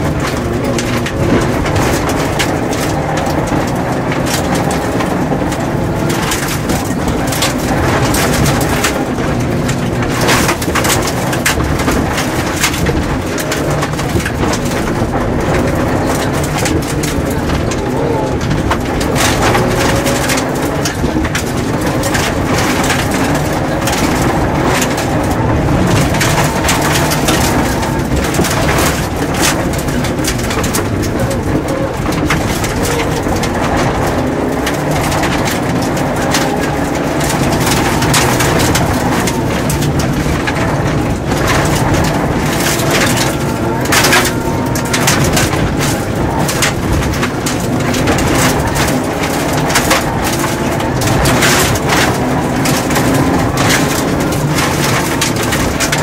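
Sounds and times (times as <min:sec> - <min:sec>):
rally car engine running hard: 0:00.0 - 0:56.0.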